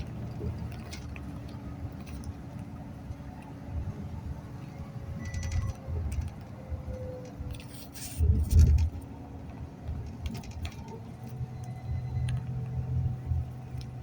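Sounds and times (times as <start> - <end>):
bus engine hum: 0.0 - 14.0.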